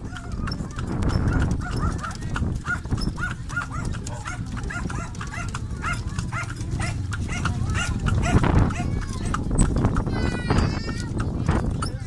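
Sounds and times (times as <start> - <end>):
carriage wheels and hooves rumbling: 0.0 - 12.0.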